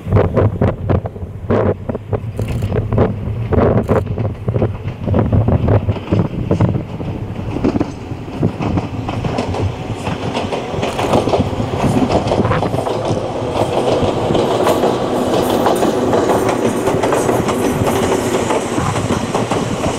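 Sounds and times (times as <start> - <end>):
electric train passing: 0.0 - 19.9
train wheels clacking on rail joints: 0.0 - 19.9.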